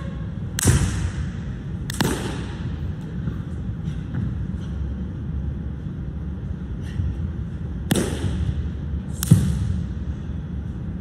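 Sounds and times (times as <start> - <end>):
low background noise: 0.0 - 11.0
stomps and landings in a hall: 0.0 - 11.0.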